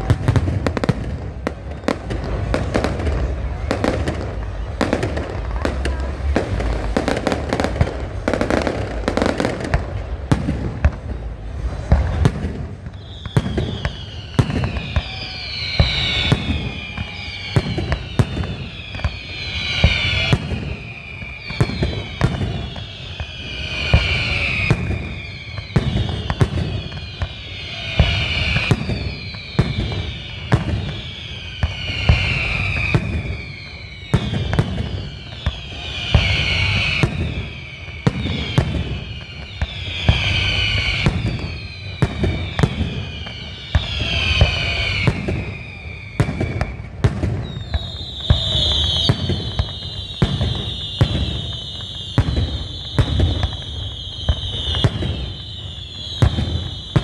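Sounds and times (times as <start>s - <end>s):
fireworks bangs and crackles: 0.0s - 57.0s
high falling whistle: 1.7s - 57.0s.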